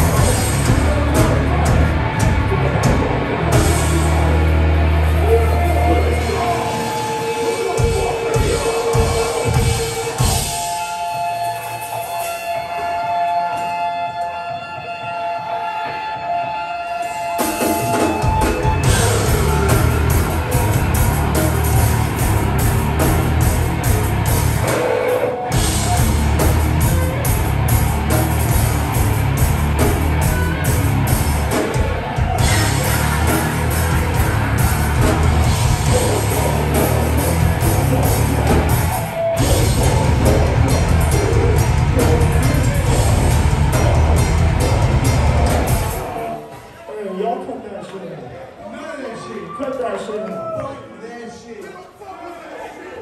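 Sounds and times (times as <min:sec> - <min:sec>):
metal band playing loud: 0:00.0 - 0:46.9.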